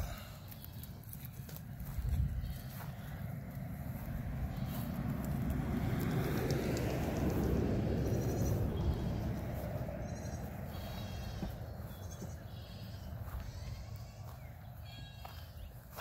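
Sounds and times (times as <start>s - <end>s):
goat kids bleating: 0.0s - 5.5s, 8.0s - 16.0s
low rumbling noise: 1.8s - 14.7s.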